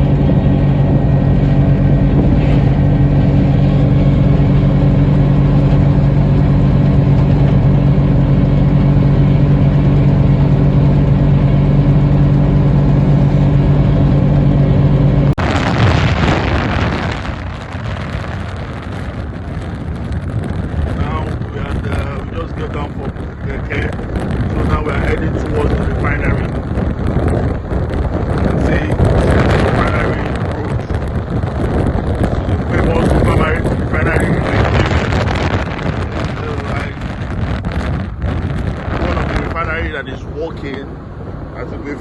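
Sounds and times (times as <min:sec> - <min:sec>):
traffic: 0:00.0 - 0:42.0
vehicle engine droning: 0:00.0 - 0:42.0
wind: 0:00.0 - 0:42.0.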